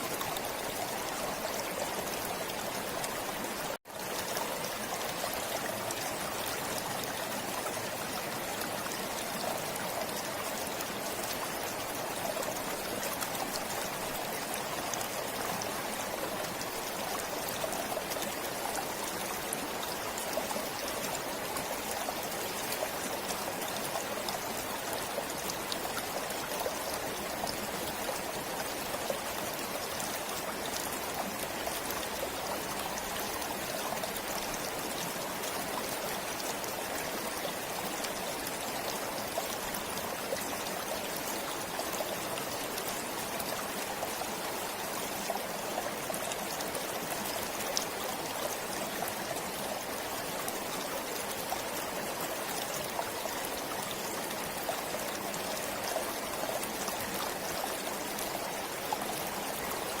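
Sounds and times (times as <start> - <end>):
stream flowing over stones: 0.0 - 60.0.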